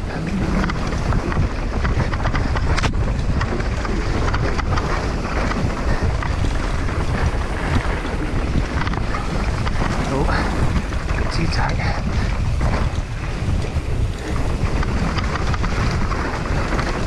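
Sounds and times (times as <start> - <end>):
bike knocks and rattles: 0.0 - 17.0
tyres rumbling on loose dirt: 0.0 - 17.0
wind buffeting microphone: 0.0 - 17.0.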